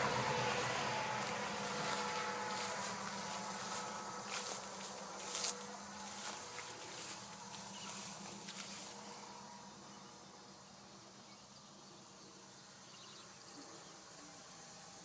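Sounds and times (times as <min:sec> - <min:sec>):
insects chirring: 0:00.0 - 0:15.0
low steady hum: 0:00.0 - 0:15.0.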